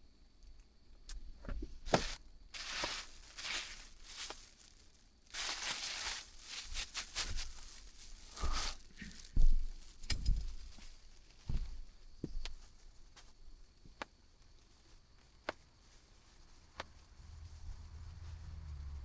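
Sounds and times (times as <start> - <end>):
rustling and crinkling: 1.4 - 19.0.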